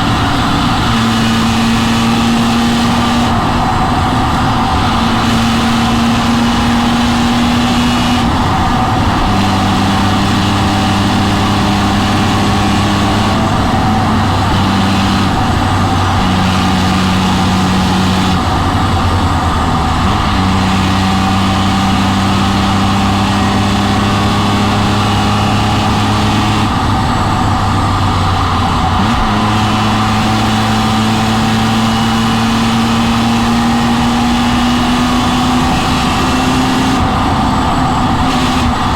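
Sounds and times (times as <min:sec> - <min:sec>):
car engine revving: 0:00.0 - 0:38.9
wind and tyre noise: 0:00.0 - 0:38.9.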